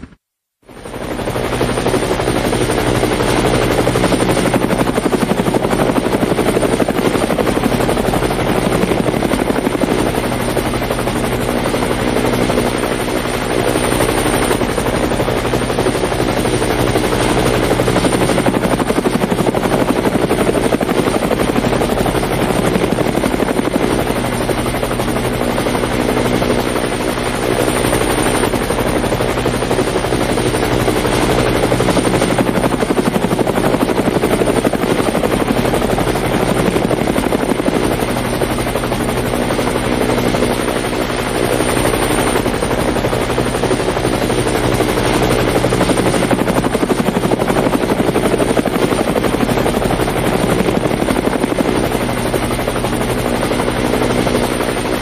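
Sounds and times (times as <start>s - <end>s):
helicopter rotor chopping: 0.0s - 55.0s.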